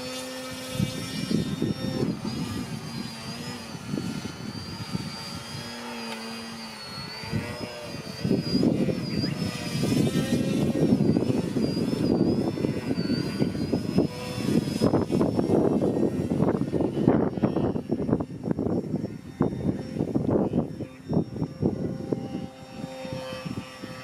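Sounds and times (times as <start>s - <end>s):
model plane motor whine: 0.0s - 24.0s
wind buffeting microphone: 0.0s - 24.0s.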